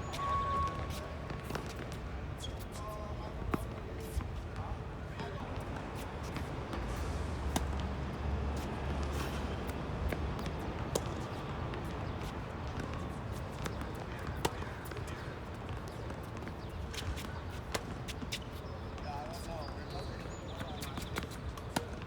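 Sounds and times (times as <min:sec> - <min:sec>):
tennis balls hit and bouncing: 0:00.0 - 0:22.0.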